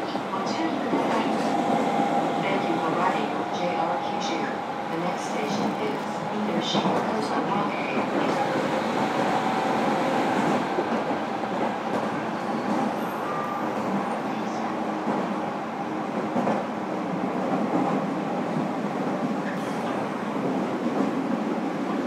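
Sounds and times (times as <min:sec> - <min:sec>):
electric train interior running noise: 0:00.0 - 0:22.0.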